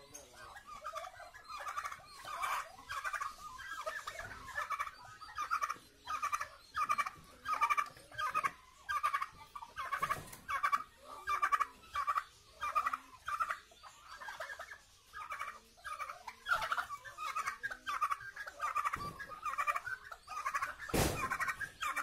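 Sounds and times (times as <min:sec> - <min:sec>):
turkeys gobbling: 0:00.0 - 0:22.0.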